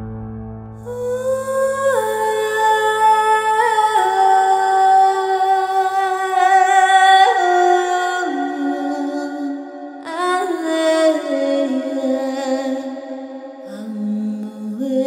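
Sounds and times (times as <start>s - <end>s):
slow music with long held notes: 0.0s - 15.0s.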